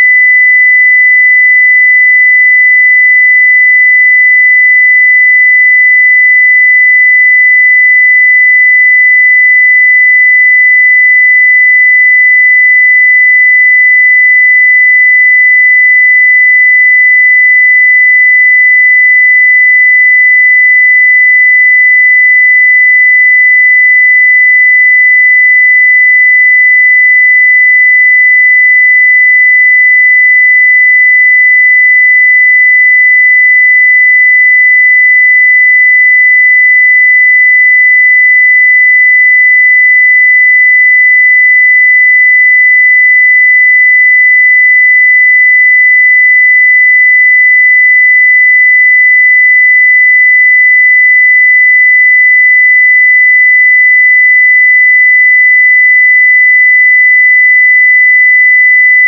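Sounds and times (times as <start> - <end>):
sine-wave test tone: 0.0 - 59.0.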